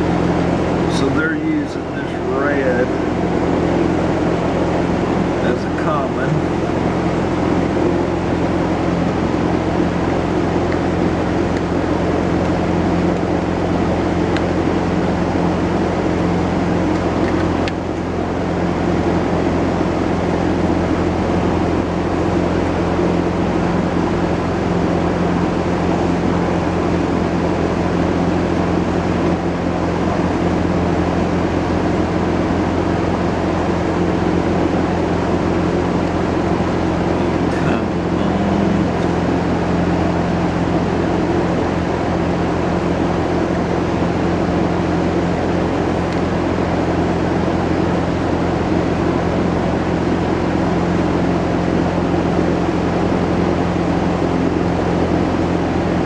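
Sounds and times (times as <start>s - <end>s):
mechanical drone: 0.0s - 50.2s.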